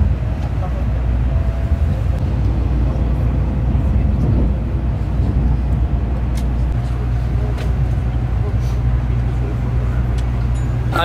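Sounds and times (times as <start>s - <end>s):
train interior low rumble: 0.0s - 11.0s.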